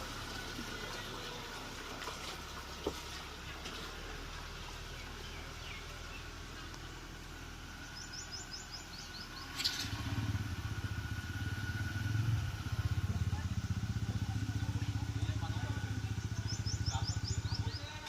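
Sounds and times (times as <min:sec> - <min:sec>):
vehicle engine pulsing: 0:00.0 - 0:18.0.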